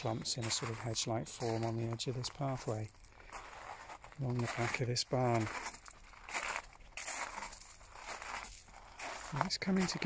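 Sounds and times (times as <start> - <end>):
footsteps crunching on gravel: 0.0 - 10.0.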